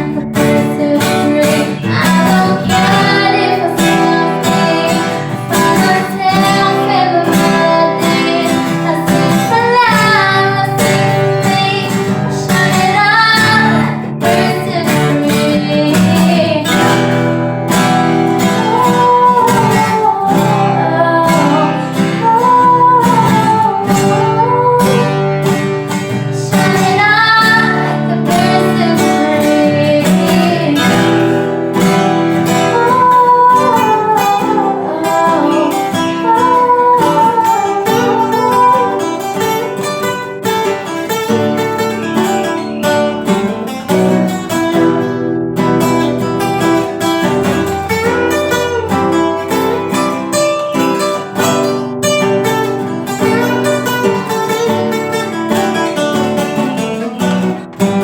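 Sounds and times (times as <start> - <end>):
acoustic guitar strumming: 0.0 - 58.0
woman singing: 0.0 - 58.0.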